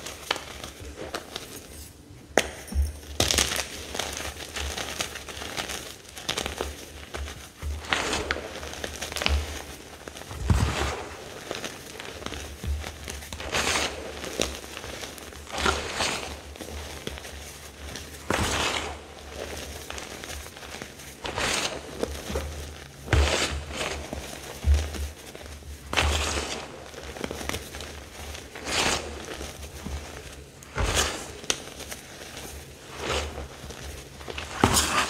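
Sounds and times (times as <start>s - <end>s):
chalk crunching by hand: 3.2s - 35.0s.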